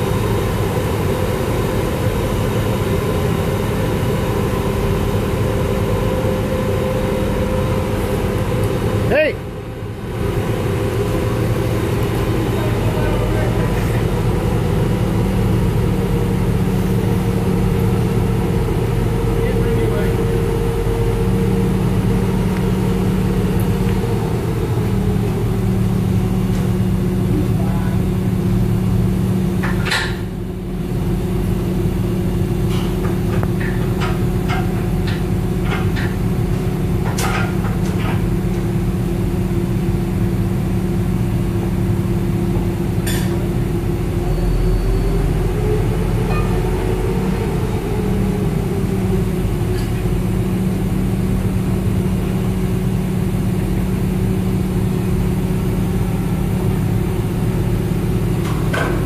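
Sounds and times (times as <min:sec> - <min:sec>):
heavy engine running: 0:00.0 - 0:59.0.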